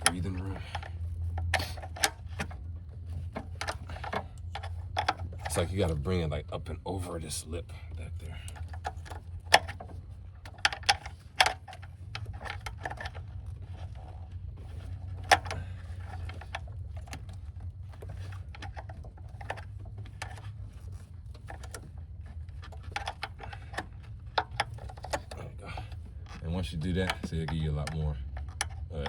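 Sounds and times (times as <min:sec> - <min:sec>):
clicks and knocks of fittings: 0:00.0 - 0:06.3, 0:07.7 - 0:29.0
steady low hum: 0:00.0 - 0:29.0.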